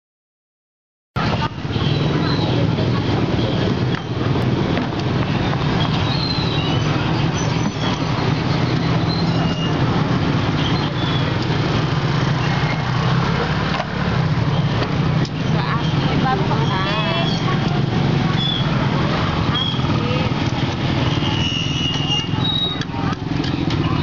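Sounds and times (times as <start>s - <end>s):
street noise: 1.2s - 24.0s.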